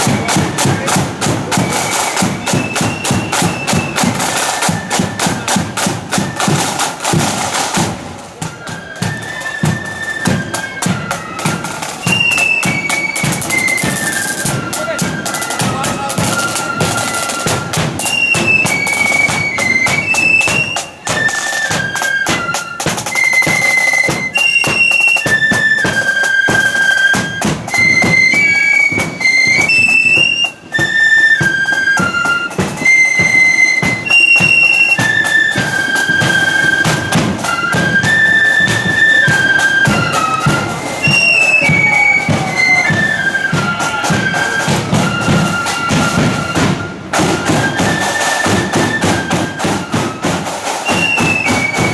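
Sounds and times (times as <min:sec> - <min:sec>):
shrill flute melody: 0:00.0 - 0:51.9
steady drumming: 0:00.0 - 0:51.9.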